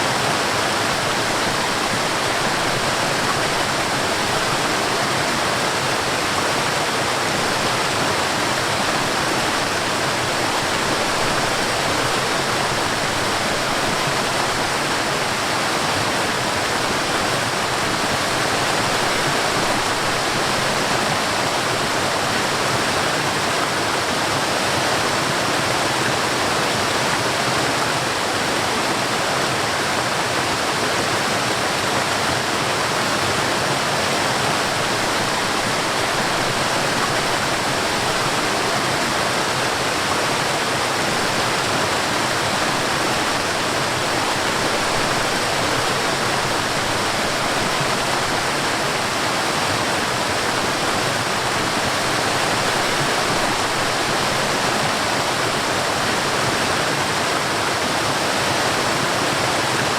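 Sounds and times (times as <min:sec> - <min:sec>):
mountain stream and waterfall rushing: 0:00.0 - 0:59.9.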